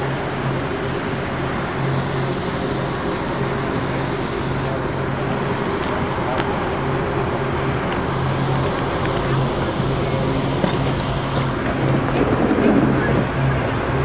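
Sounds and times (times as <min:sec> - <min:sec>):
diesel bus engine drone: 0:00.0 - 0:14.0.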